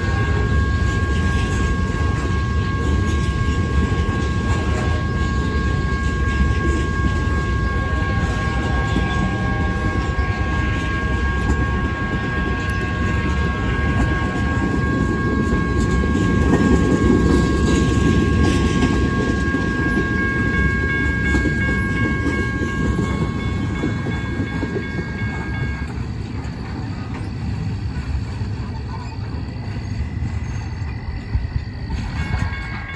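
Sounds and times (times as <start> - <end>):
steady high-pitched tones: 0.0 - 32.9
train wheels rumbling on rail: 0.0 - 32.9.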